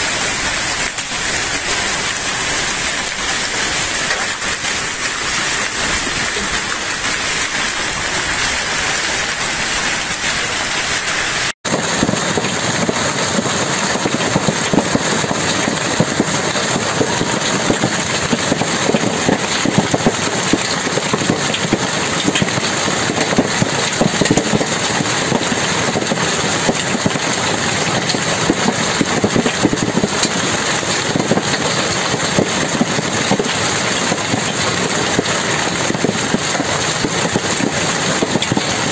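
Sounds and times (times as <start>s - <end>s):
hail and rain hissing: 0.0s - 38.9s
hailstones crackling: 0.0s - 38.9s.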